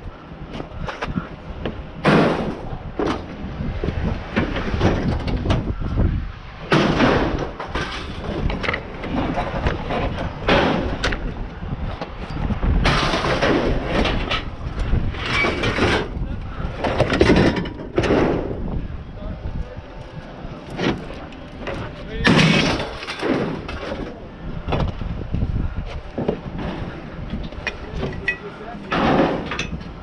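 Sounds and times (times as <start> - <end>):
scrap metal banging and clanking: 0.7 - 5.9, 6.6 - 18.8, 20.5 - 25.0, 25.8 - 30.0.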